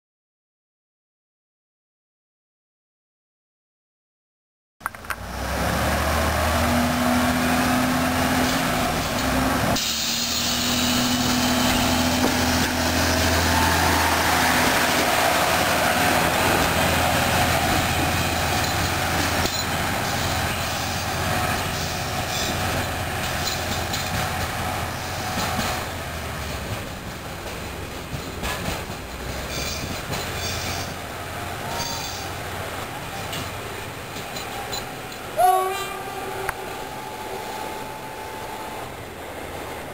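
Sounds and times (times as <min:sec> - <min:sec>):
railcar diesel engine running: 0:04.8 - 0:39.9.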